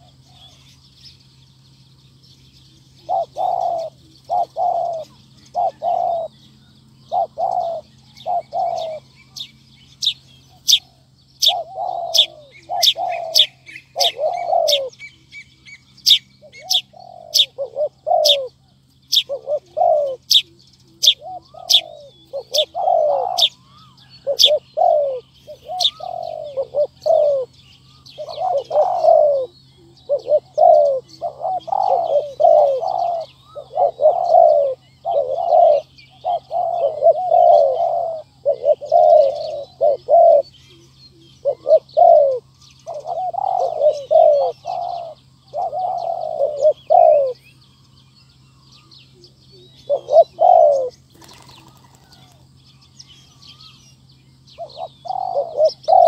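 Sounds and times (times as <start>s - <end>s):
doves cooing: 0.0s - 1.0s, 2.5s - 47.8s, 48.6s - 56.0s.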